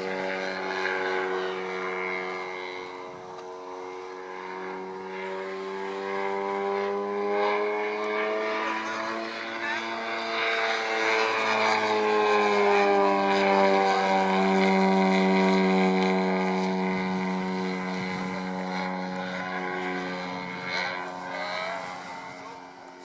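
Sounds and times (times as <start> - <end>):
model aeroplane engine passing: 0.0 - 23.0.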